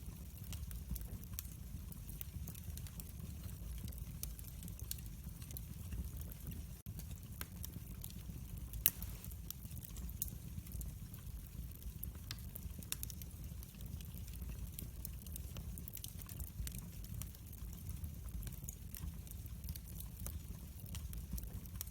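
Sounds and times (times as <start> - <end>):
fireplace wood fire crackling: 0.0 - 21.9.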